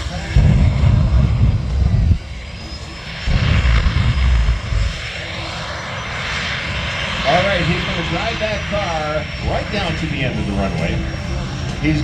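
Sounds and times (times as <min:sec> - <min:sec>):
deep rumbling engine surges: 0:00.0 - 0:12.0
jet engines roaring: 0:00.0 - 0:12.0.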